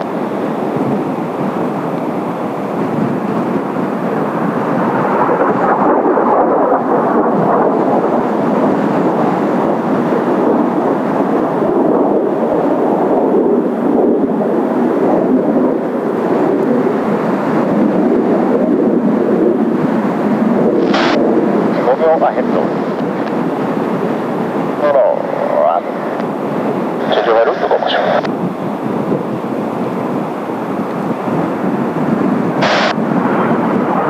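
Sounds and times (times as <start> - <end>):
jet engines rumbling overhead: 0.0 - 34.0.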